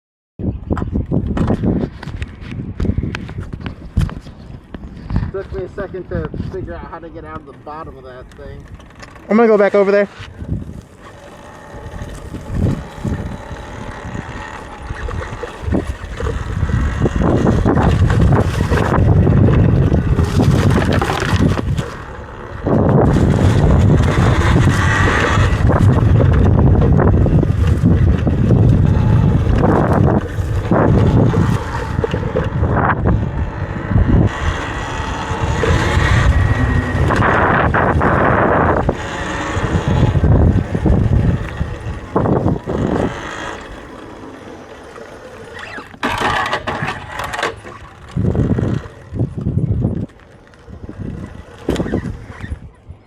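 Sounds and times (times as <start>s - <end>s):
bumps over rough ground: 0.4s - 53.0s
wind buffeting microphone: 0.4s - 53.0s.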